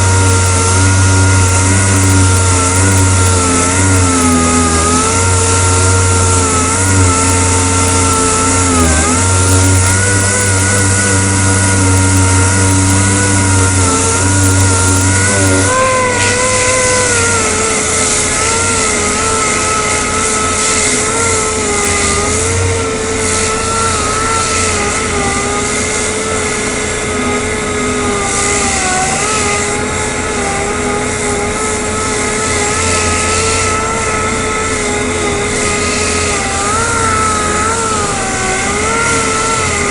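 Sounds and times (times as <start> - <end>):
power sander on plastic: 0.0 - 39.9.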